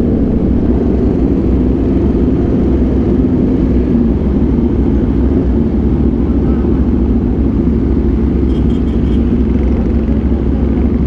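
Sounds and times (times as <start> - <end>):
motorcycle engine low rumble: 0.0 - 11.0.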